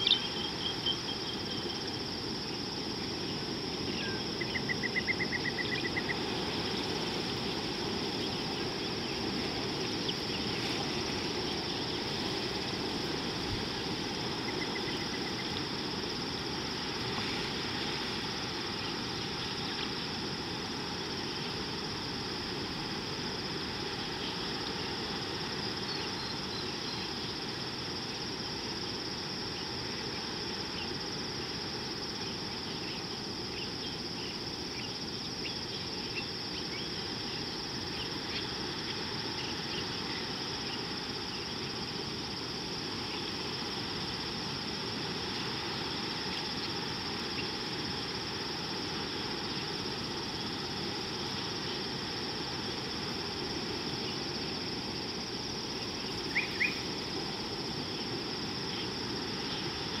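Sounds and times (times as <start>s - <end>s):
high-pitched insect drone: 0.0s - 60.0s
low outdoor noise: 0.0s - 60.0s.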